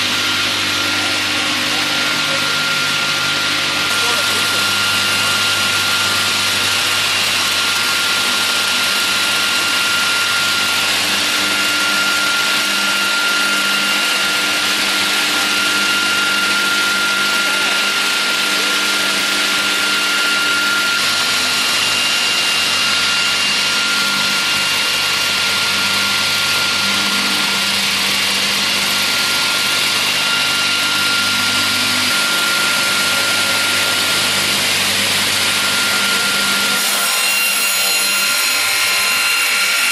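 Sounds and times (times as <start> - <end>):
sawing machine humming: 0.0 - 39.9.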